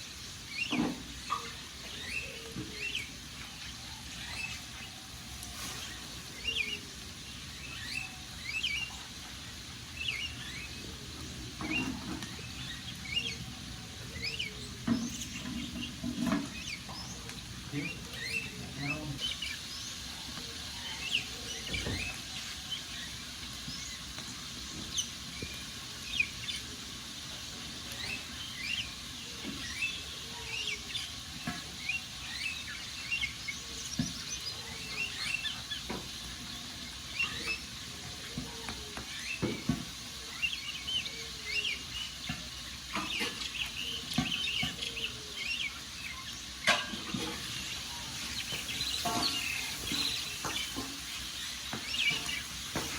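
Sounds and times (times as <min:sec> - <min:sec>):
small birds chirping: 0:00.0 - 0:52.9
wood fire crackling: 0:00.0 - 0:52.9.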